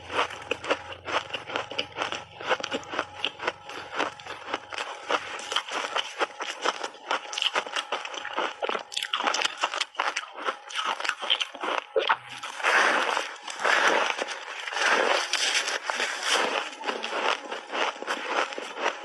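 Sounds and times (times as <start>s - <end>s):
ice being chewed crunching: 0.0s - 19.0s.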